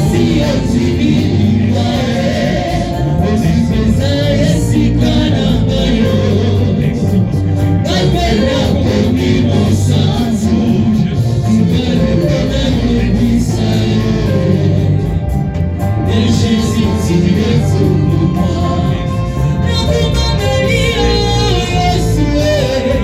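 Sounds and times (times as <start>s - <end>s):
band accompaniment: 0.0s - 23.0s
choir singing gospel: 0.0s - 23.0s.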